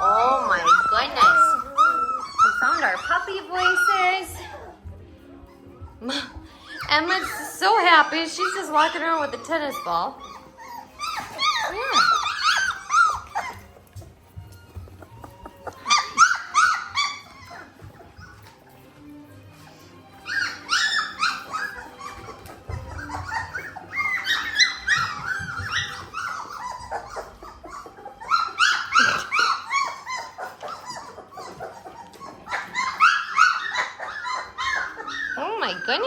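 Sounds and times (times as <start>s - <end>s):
puppies whining and yipping: 0.0s - 36.0s.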